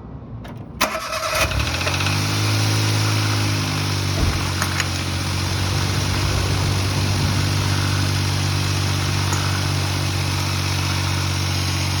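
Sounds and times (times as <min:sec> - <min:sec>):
car engine running steadily: 0:00.4 - 0:12.0.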